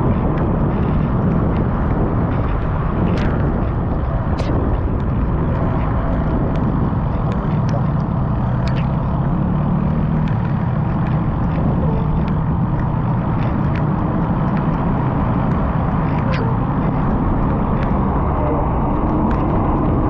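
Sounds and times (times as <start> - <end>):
faint ticks: 0.0 - 18.1
road noise: 0.0 - 20.0
wind on microphone: 0.0 - 20.0.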